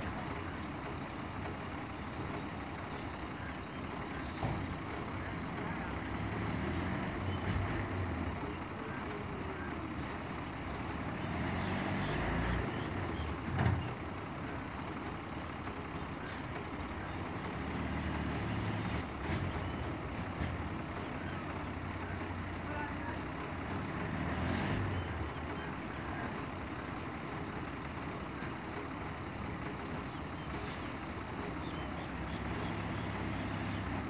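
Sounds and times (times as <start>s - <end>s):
heavy truck engines running: 0.0s - 34.0s.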